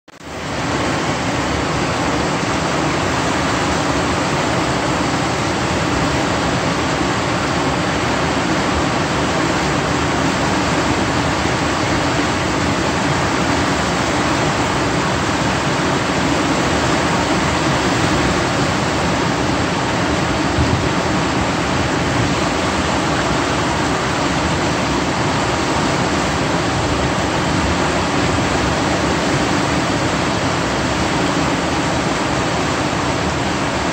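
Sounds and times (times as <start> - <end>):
water rushing from spillway: 0.1 - 33.9.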